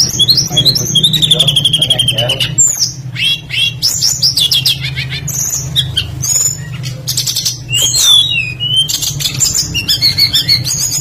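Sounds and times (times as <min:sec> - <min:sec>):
songbird singing: 0:00.0 - 0:11.0
steady low hum: 0:00.0 - 0:11.0.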